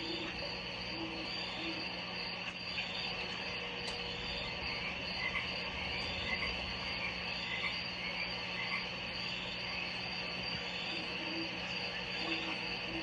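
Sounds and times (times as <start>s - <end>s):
aquarium equipment humming: 0.0s - 13.0s.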